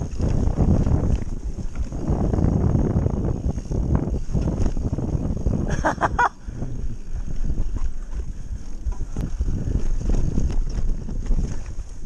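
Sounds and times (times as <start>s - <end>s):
bike tyres rumbling over dirt: 0.0s - 12.0s
wind buffeting microphone: 0.0s - 12.0s.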